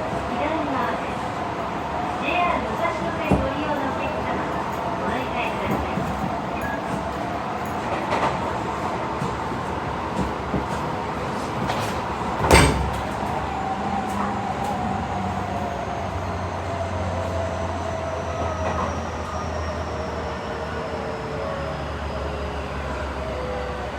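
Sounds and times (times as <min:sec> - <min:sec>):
train wheels rolling on rails: 0:00.0 - 0:21.2.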